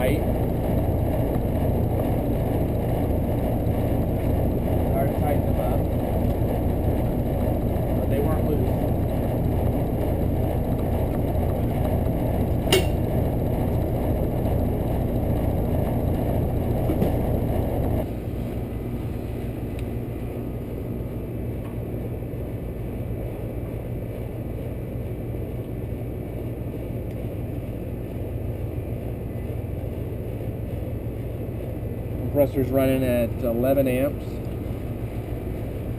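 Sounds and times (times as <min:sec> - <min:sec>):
air conditioner humming: 0:00.0 - 0:35.9.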